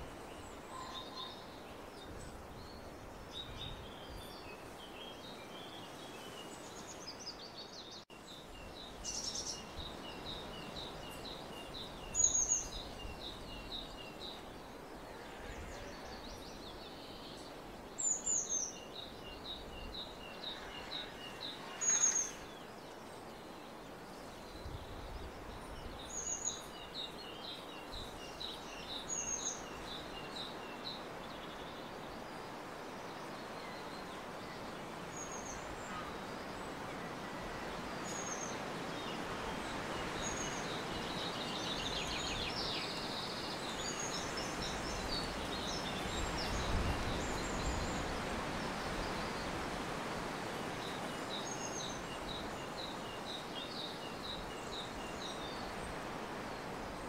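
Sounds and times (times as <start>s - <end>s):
songbirds singing: 0.0s - 57.0s
steady outdoor hiss: 0.0s - 57.0s.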